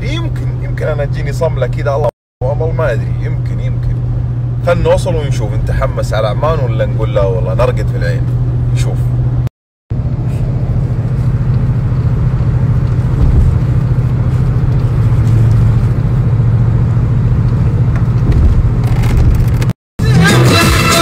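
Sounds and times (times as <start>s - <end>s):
engine and road noise drone: 0.0s - 21.0s.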